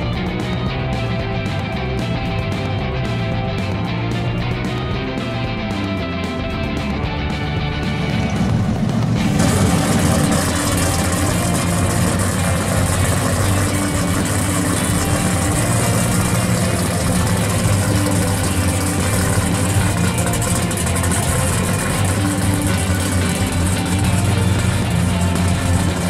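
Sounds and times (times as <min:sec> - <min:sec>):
engine idling loudly: 0:00.0 - 0:26.0.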